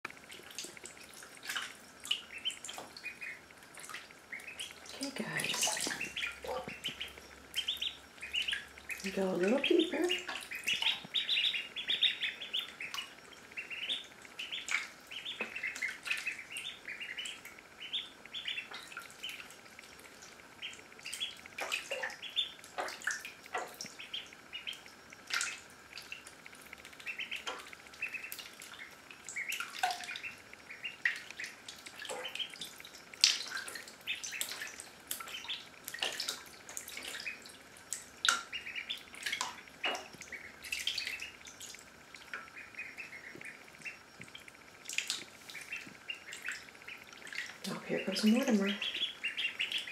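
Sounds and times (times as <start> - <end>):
ducklings peeping: 0.1 - 49.9
small water splashes: 0.1 - 49.9.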